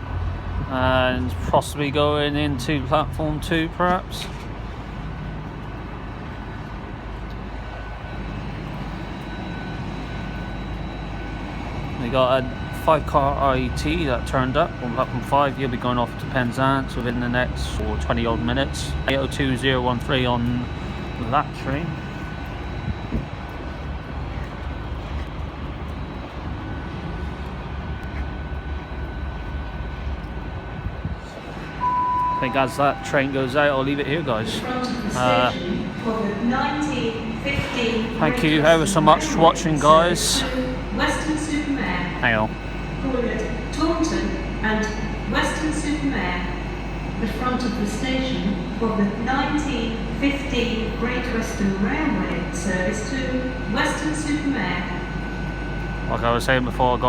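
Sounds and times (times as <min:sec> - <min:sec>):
diesel train engines rumbling: 0:00.0 - 0:57.0
faint steady whine: 0:00.0 - 0:57.0.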